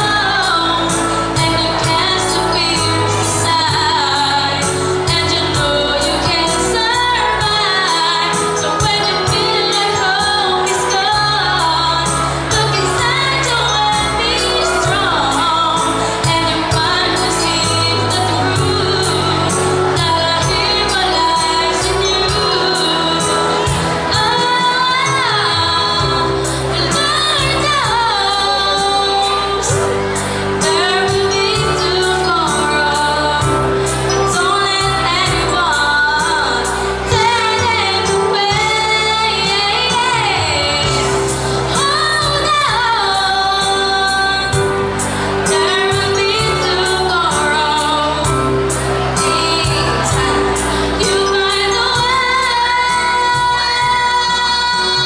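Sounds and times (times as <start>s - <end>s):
instrumental backing with bass and beat: 0.0s - 55.0s
woman singing into a microphone: 0.0s - 55.0s.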